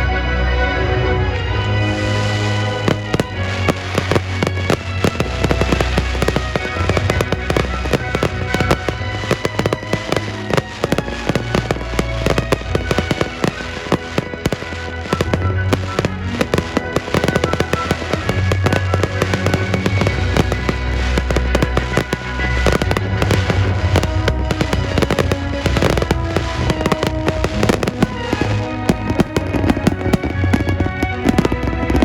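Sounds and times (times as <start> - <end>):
fireworks bangs and crackles: 0.0 - 32.0
music: 0.0 - 32.0.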